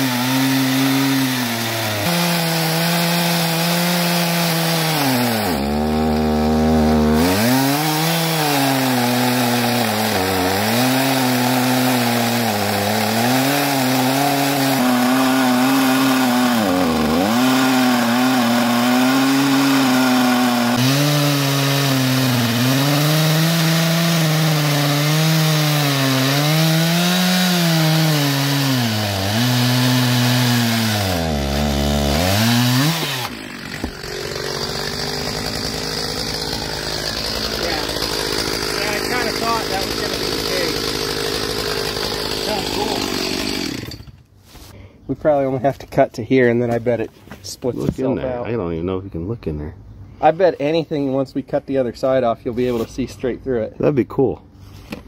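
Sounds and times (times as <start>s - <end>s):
chainsaw cutting log: 0.0s - 44.3s.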